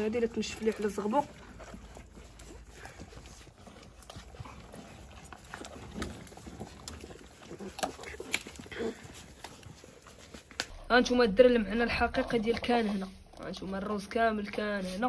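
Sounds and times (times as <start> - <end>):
puppies eating from plastic bowl: 0.0 - 15.0.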